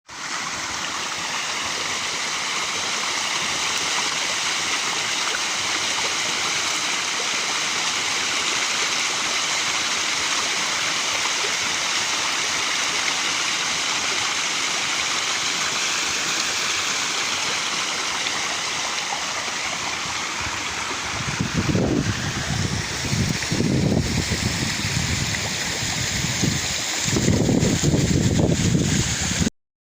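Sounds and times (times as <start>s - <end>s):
waterfall roaring: 0.2s - 29.5s.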